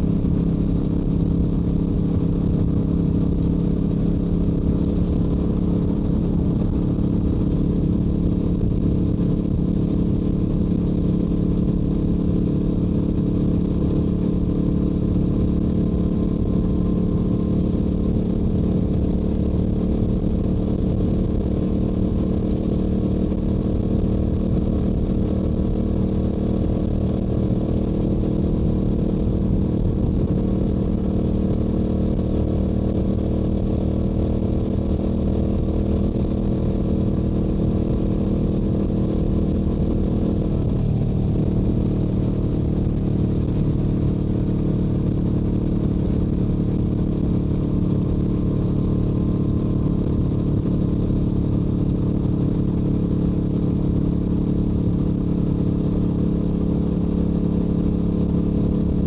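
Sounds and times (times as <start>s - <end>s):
motorcycle exhaust cruising: 0.0s - 59.0s.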